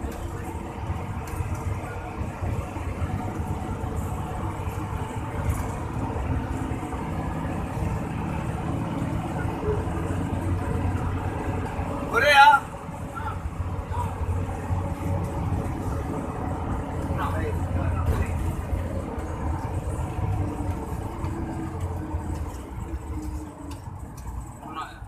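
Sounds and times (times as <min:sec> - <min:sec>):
bus diesel engine rumble: 0:00.0 - 0:25.0
road noise: 0:00.0 - 0:25.0.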